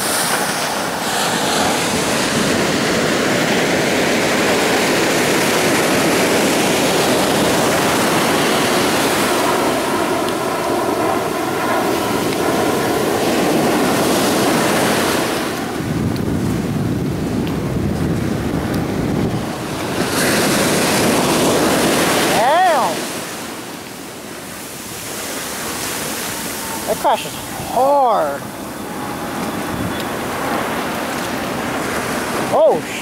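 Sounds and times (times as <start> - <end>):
wind noise on microphone: 0.0 - 10.1, 10.8 - 33.0
ocean surf breaking: 0.0 - 33.0.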